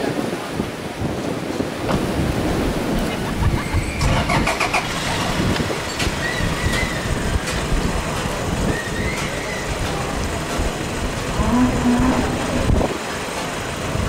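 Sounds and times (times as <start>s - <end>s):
steady low rumble: 1.9s - 14.0s.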